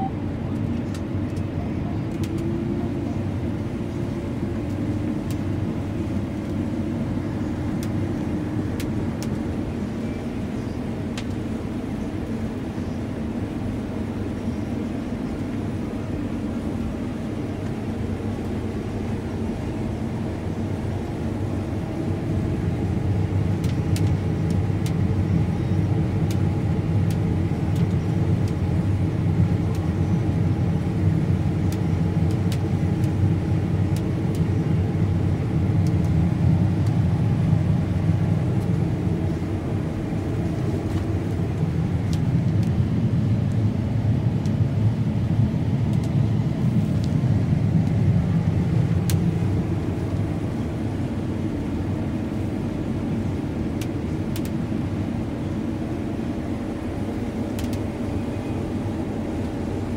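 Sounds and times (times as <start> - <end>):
combine harvester low drone: 0.0 - 59.9.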